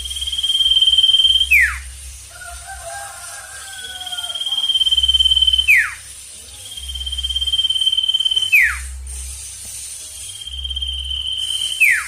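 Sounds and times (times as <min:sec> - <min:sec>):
bird singing high trill: 0:00.0 - 0:09.0, 0:10.0 - 0:12.0.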